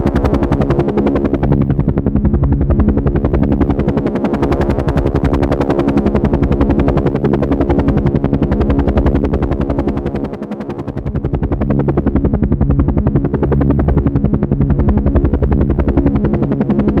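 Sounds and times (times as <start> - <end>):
helicopter engine hum: 0.0 - 17.0
helicopter rotor chopping: 0.0 - 17.0.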